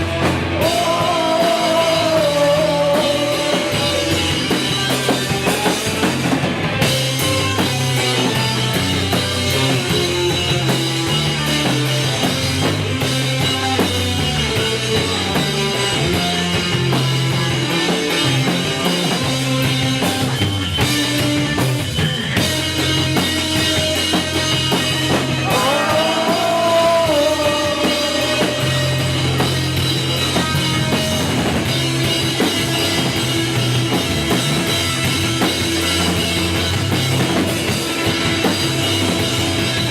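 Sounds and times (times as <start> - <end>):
bass line: 0.0 - 39.9
drum kit: 0.0 - 39.9
rock band playing live: 0.0 - 39.9.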